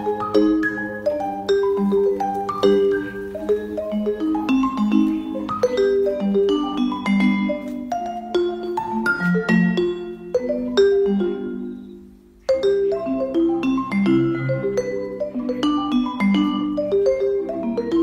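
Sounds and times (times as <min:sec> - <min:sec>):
mallet percussion melody: 0:00.0 - 0:18.0.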